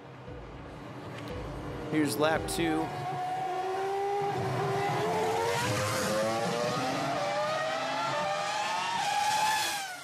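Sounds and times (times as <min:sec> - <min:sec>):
race car engine whine: 0:00.0 - 0:10.0.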